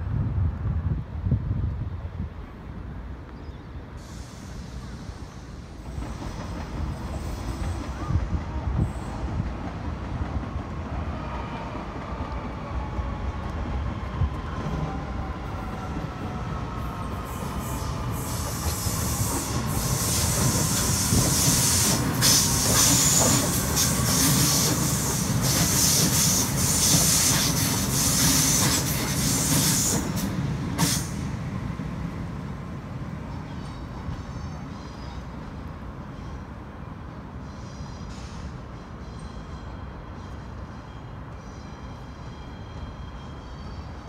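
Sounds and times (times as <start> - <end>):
electric train passing: 3.9 - 44.0.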